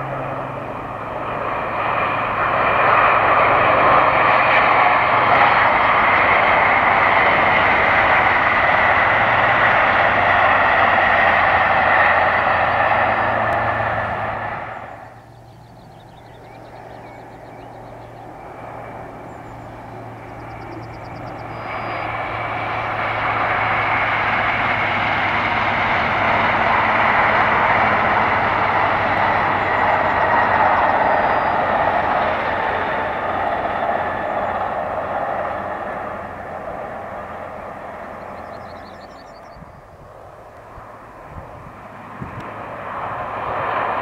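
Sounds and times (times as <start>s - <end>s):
train passing at speed: 0.0s - 44.0s.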